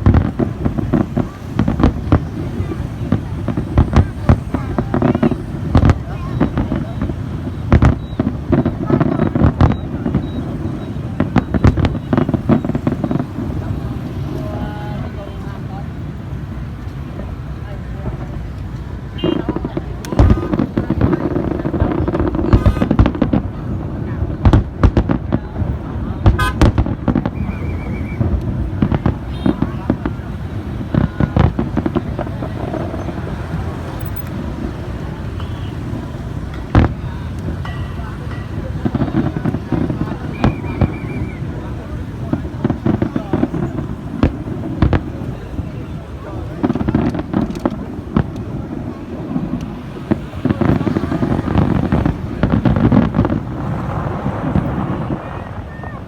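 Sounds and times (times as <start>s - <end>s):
crowd murmur: 0.0s - 56.0s
fireworks bangs: 0.0s - 56.0s
wind on microphone: 0.0s - 56.0s.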